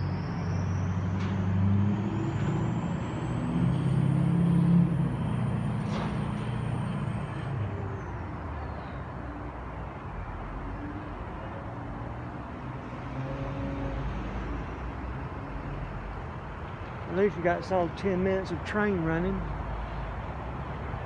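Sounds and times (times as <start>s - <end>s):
heavy engine rumbling: 0.0s - 21.0s.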